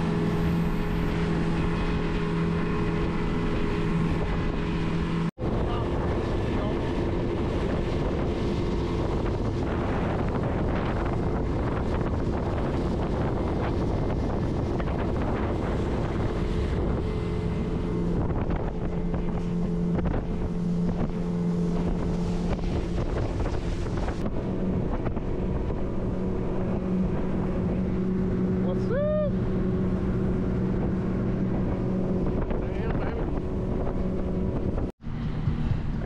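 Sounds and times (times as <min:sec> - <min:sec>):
motorboat engine running: 0:00.0 - 0:36.0
wind buffeting microphone: 0:00.0 - 0:36.0.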